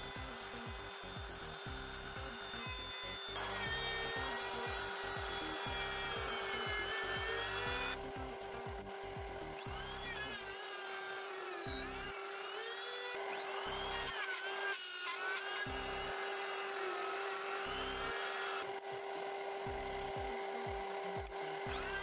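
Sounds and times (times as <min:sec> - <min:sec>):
high-speed rotary tool boring: 0:00.0 - 0:22.0.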